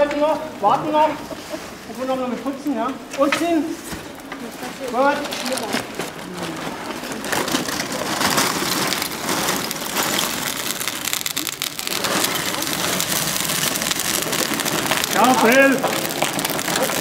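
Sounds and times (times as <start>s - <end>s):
molten metal crackling and hissing: 0.7s - 17.0s.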